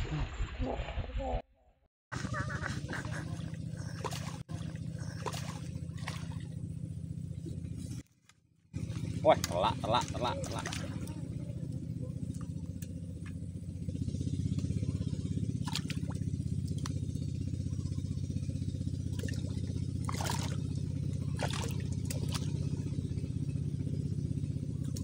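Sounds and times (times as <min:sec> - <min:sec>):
small engine running: 0:02.1 - 0:25.0.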